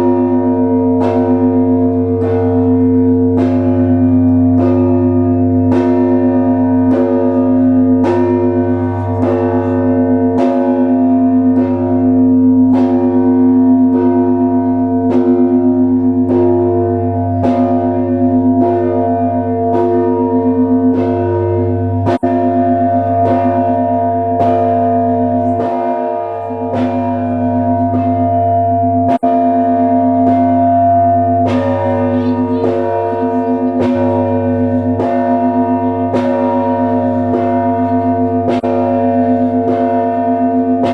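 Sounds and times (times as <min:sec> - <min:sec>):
church bells ringing: 0:00.0 - 0:40.9
deep hum of large bell: 0:00.0 - 0:40.9.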